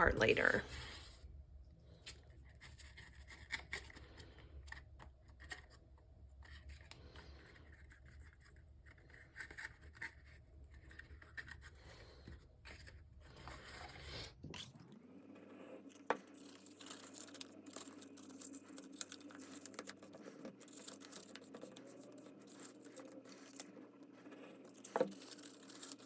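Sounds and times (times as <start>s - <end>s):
paper rubbing and scraping: 2.1s - 14.5s, 15.9s - 26.0s.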